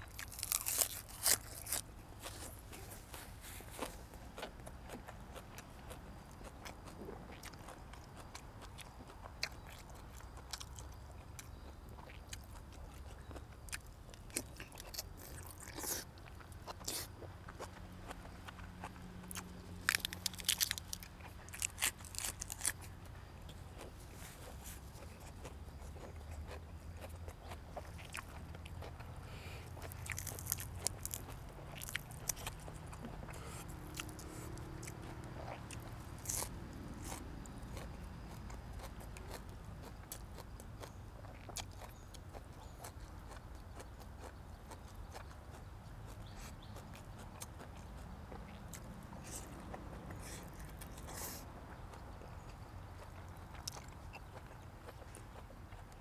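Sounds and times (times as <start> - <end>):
low steady hum: 0.0 - 56.0
person chewing food: 0.0 - 56.0.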